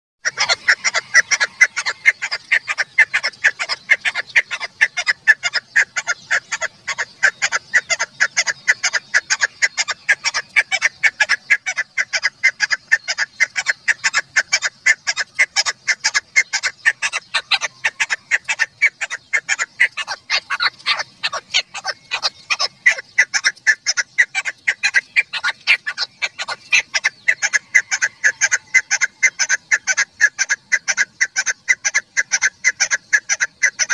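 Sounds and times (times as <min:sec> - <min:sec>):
partridge calling rapid short notes: 0:00.2 - 0:33.9.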